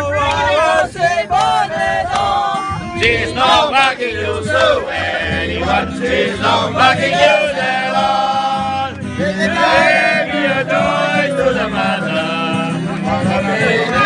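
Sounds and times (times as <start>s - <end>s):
group singing and chanting: 0.0s - 14.0s.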